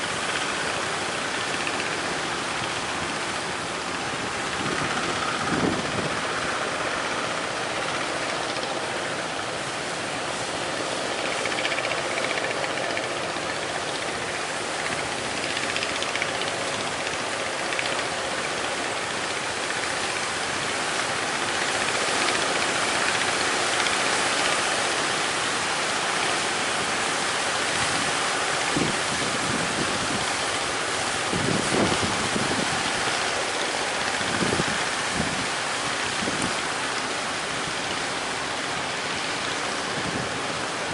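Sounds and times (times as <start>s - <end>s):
choppy sea water rushing: 0.0s - 40.9s
strong wind: 0.0s - 40.9s
wind buffeting microphone: 0.0s - 40.9s.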